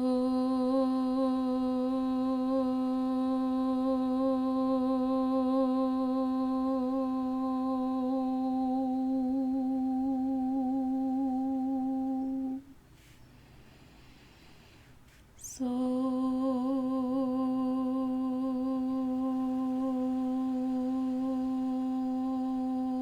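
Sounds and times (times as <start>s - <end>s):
person chanting long steady note: 0.0s - 12.8s, 15.4s - 23.0s.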